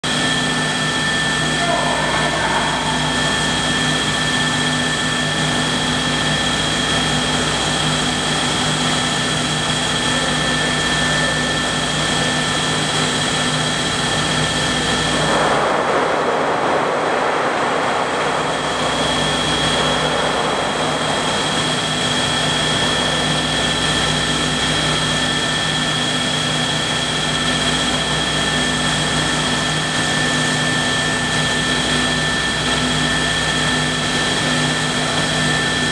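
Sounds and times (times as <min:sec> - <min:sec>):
machinery hum: 0:00.0 - 0:35.9.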